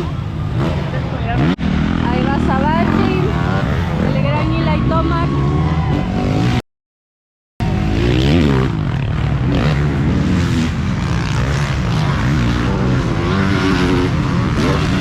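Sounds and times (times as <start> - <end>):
motocross bike engines revving: 0.0 - 6.6, 7.6 - 15.0.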